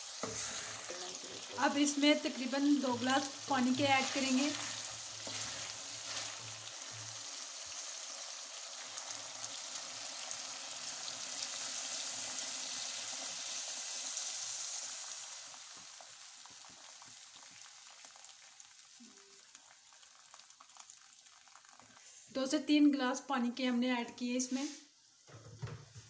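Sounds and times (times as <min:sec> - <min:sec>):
chicken sizzling in hot oil: 0:00.0 - 0:22.2.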